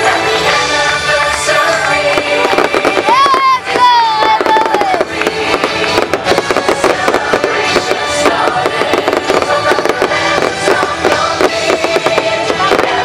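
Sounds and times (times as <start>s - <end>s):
fireworks crackling and popping: 0.0s - 13.0s
loud show music: 0.0s - 13.0s.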